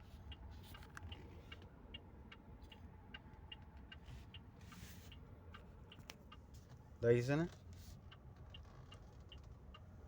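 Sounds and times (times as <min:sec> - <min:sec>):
low car hum: 0:00.0 - 0:10.0
turn signal ticking: 0:00.0 - 0:10.0.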